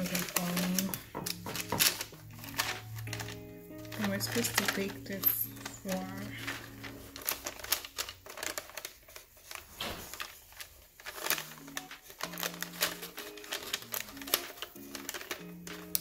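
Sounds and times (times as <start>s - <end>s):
crinkling and clicking handling: 0.0s - 16.0s
soft music of low notes: 0.0s - 16.0s.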